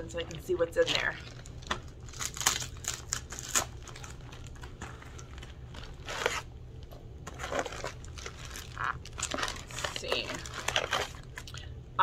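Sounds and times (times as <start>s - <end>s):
package wrapping tearing and crinkling: 0.8s - 6.5s, 7.3s - 11.6s.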